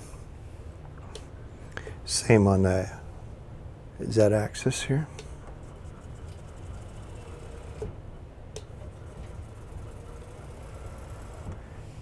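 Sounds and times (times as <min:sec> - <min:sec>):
faint low motor hum: 0:00.0 - 0:12.0
faint steady whine: 0:00.0 - 0:12.0.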